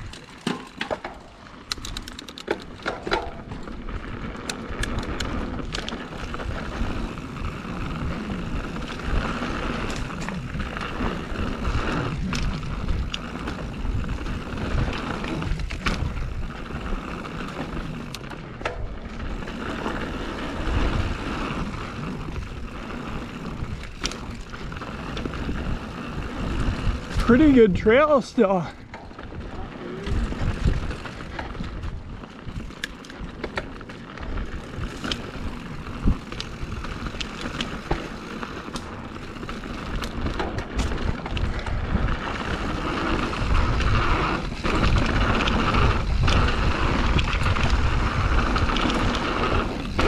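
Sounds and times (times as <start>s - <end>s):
bike rattles and clicks: 0.0s - 50.0s
bike tyres rolling over dirt: 0.0s - 50.0s.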